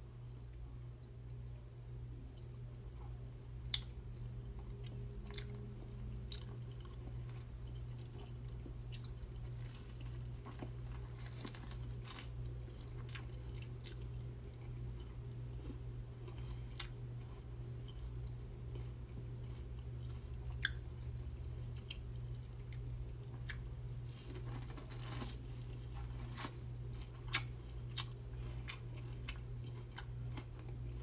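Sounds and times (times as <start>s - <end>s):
close chewing and biting: 4.6s - 24.5s, 25.4s - 31.0s.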